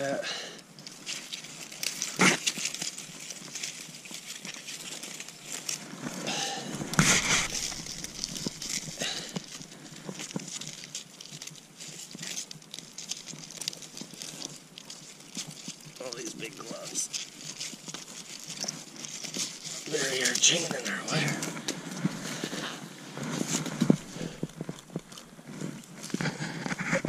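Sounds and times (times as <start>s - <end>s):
dry grass and snow crackling: 0.0s - 27.0s.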